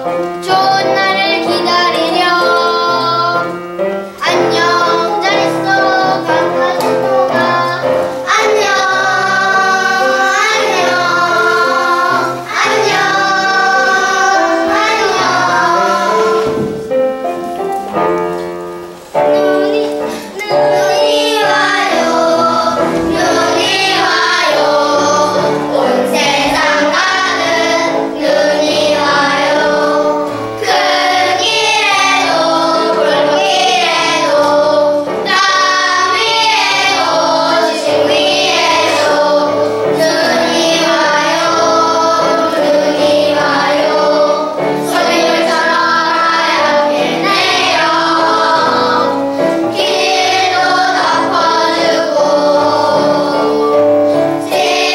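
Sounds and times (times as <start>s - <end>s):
children singing as a choir: 0.0s - 54.9s
musical accompaniment: 0.0s - 54.9s.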